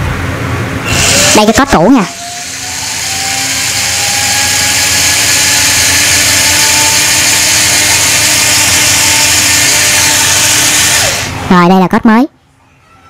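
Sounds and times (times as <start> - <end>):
small electric motors whirring: 0.9 - 11.4.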